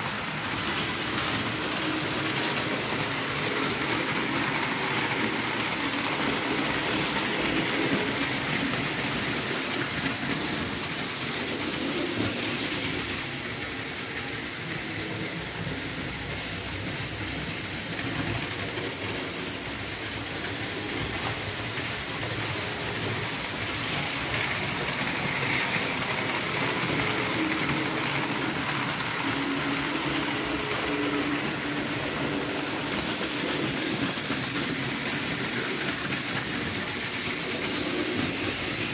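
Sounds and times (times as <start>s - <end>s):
model train wheels rattling: 0.0s - 38.9s.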